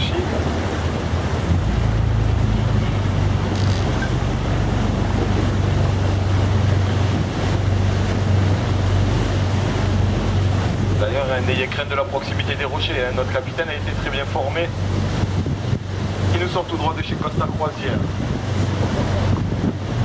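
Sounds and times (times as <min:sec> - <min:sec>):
boat engine droning: 0:00.0 - 0:20.0
water noise: 0:00.0 - 0:20.0
wind: 0:00.0 - 0:20.0.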